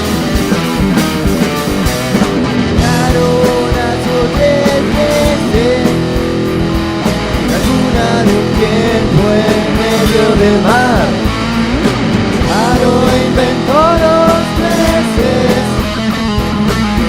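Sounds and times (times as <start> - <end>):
bass guitar: 0.0 - 17.0
drum hits: 0.0 - 17.0
lead guitar bending notes: 0.0 - 17.0.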